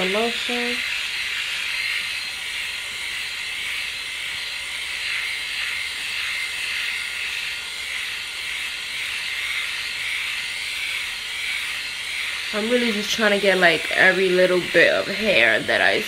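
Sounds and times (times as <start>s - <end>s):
electric shaver whirring: 0.0s - 16.0s.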